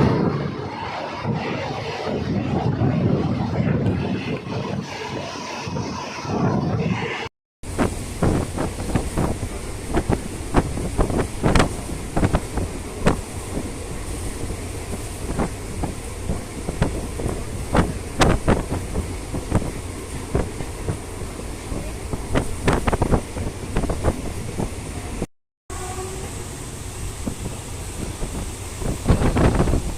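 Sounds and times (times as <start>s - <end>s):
wind on microphone: 0.0s - 25.3s, 27.1s - 29.9s
train rumbling on track: 0.0s - 29.9s.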